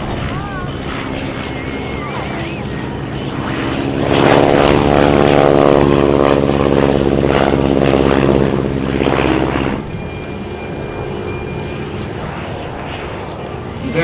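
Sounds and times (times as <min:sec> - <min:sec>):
biplanes passing low: 0:00.0 - 0:14.0.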